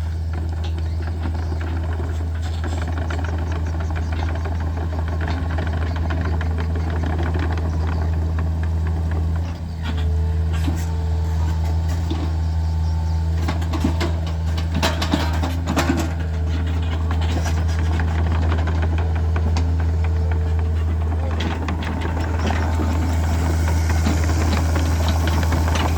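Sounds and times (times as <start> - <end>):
diesel engine running: 0.0 - 25.9
clanks and knocks: 0.2 - 25.9.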